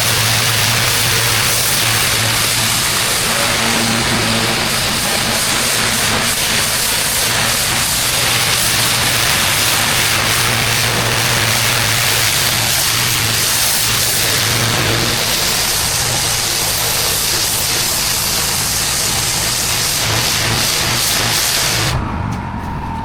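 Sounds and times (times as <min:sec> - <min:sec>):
pressure washer engine hum: 0:00.0 - 0:22.0
water jet hissing on paving: 0:00.0 - 0:22.0.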